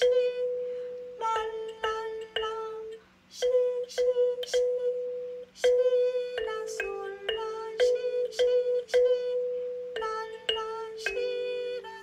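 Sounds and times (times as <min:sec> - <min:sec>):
kalimba notes plucked: 0:00.0 - 0:12.0.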